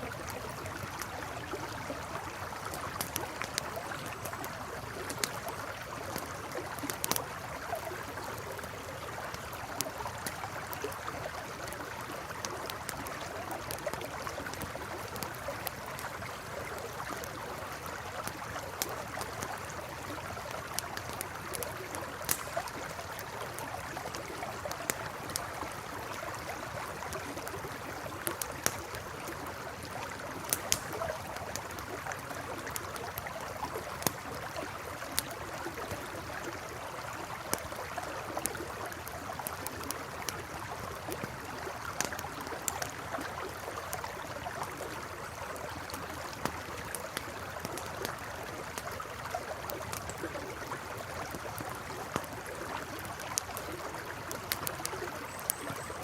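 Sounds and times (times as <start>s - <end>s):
campfire crackling and popping: 0.0s - 56.0s
river flowing: 0.0s - 56.0s.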